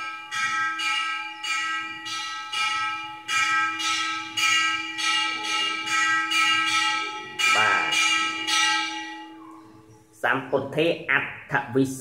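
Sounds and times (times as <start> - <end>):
bell-like metallic strikes: 0.0 - 10.1.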